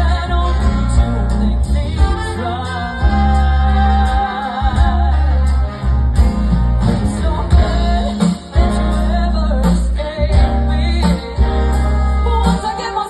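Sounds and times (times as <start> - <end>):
woman singing: 0.0 - 5.7, 7.0 - 13.0
big band playing: 0.0 - 13.0
heavy bass line: 0.0 - 13.0.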